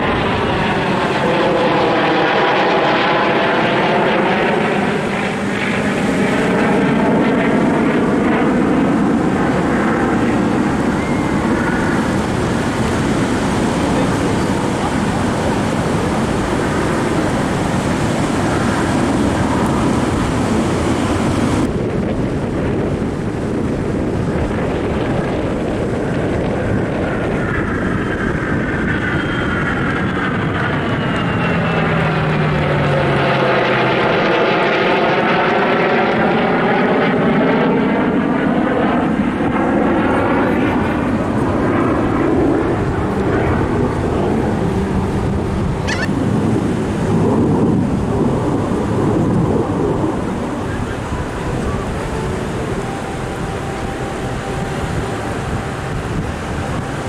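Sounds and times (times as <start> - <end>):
aircraft engine roar flying past: 0.0 - 57.0.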